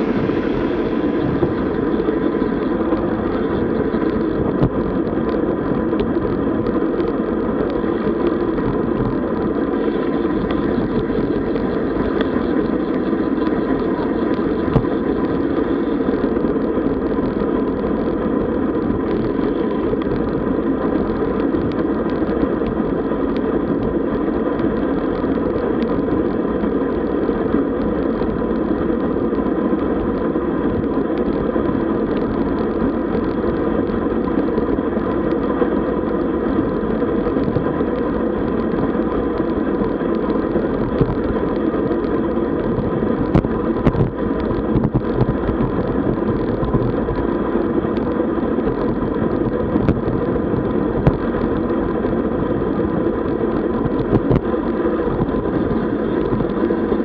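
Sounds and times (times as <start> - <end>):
bicycle road noise: 0.0 - 57.0
wind on microphone: 0.0 - 57.0.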